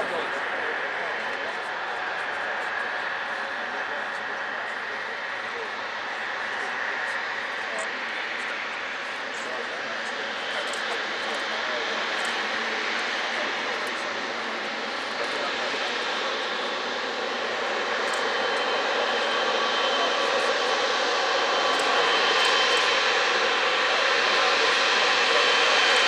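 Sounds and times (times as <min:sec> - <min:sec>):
jet engine rush: 0:00.0 - 0:26.0.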